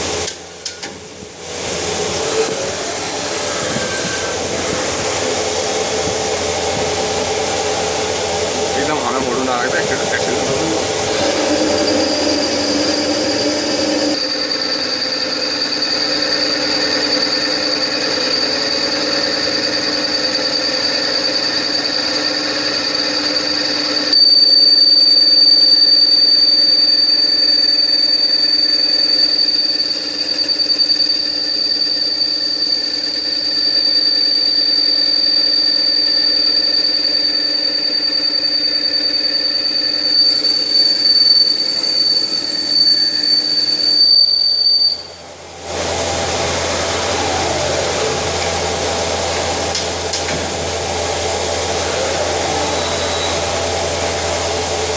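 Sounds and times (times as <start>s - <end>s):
machine running with high whine: 0.0s - 54.9s.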